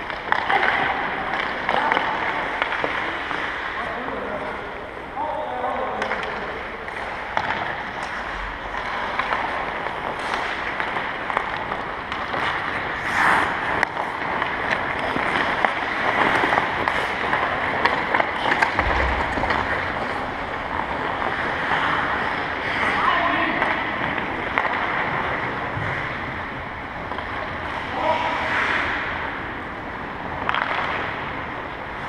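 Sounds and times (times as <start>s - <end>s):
sticks hitting pucks: 0.0s - 3.8s, 5.8s - 26.2s, 30.2s - 32.0s
skate blades scraping ice: 6.0s - 32.0s.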